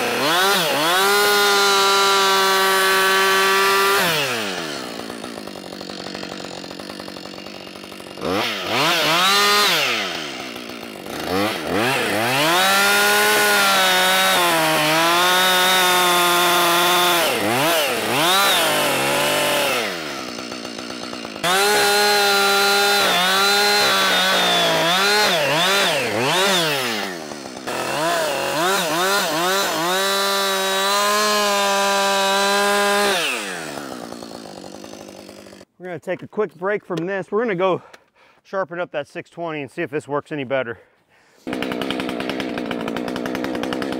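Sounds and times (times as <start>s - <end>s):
chainsaw cutting log: 0.0s - 38.1s, 41.4s - 43.9s.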